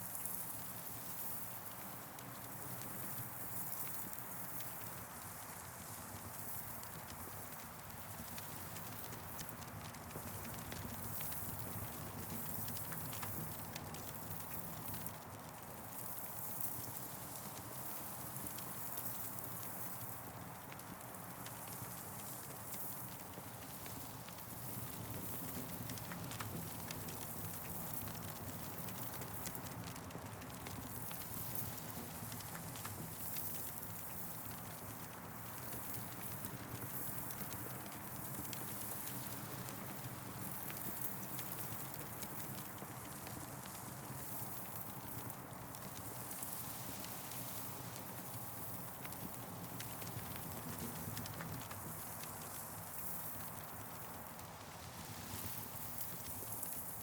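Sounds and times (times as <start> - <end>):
campfire crackling: 6.2 - 16.0, 16.9 - 57.0.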